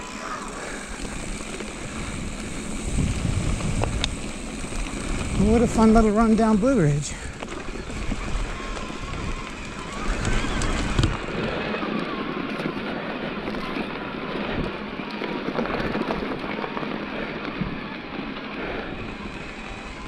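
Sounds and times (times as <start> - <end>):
bike rattling and clicking: 0.0 - 20.0
bike tyres crunching over dirt: 0.0 - 20.0
wind rumble on microphone: 0.0 - 20.0.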